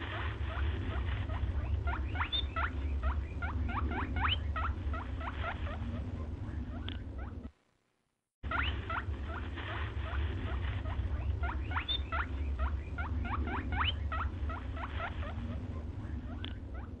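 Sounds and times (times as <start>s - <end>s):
low rumble: 0.0s - 7.5s, 8.4s - 17.0s
parakeet chirping: 0.1s - 7.5s, 8.4s - 17.0s.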